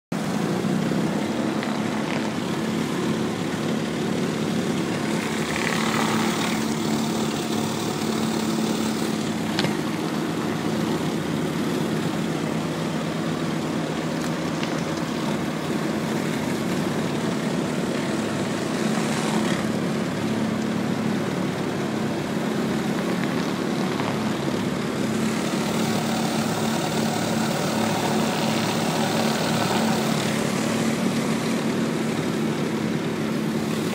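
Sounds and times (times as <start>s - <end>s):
pressure washer engine running: 0.2s - 33.9s.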